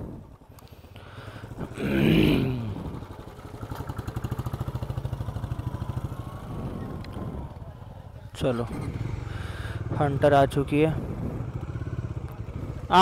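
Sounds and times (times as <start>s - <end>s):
motorcycle engine idling: 0.0s - 13.0s
motorcycle passing: 0.0s - 13.0s.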